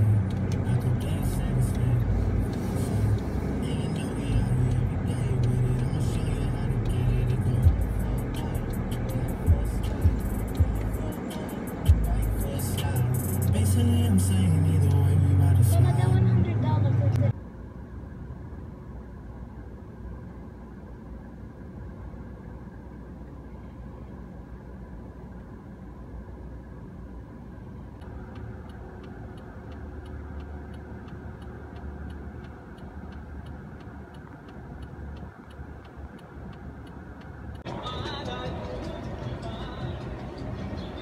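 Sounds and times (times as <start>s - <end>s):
turn signal ticking: 0.0s - 17.4s, 25.2s - 41.0s
car cabin hum: 0.0s - 41.0s.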